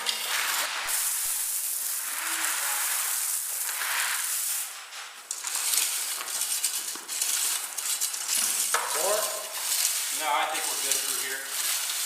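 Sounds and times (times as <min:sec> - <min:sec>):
gravel shovelled into buckets: 0:00.0 - 0:12.0.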